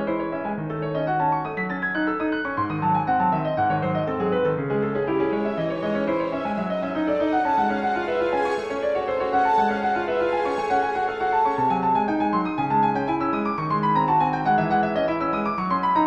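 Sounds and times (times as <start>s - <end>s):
instrumental piano music: 0.0s - 16.0s.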